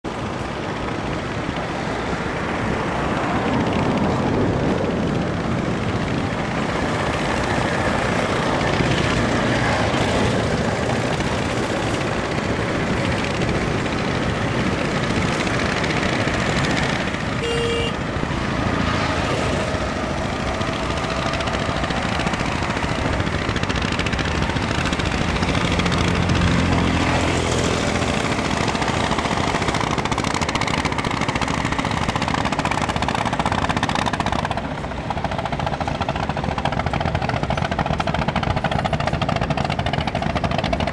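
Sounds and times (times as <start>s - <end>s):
motor boat engines rattling: 0.1s - 40.9s.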